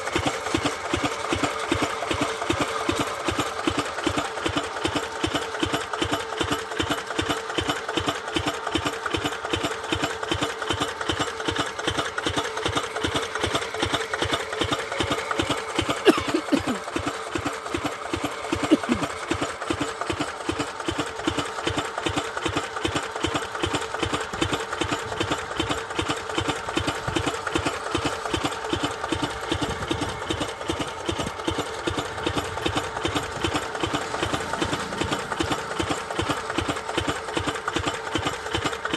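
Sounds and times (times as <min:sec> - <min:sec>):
diesel pump engine running: 0:00.0 - 0:38.9.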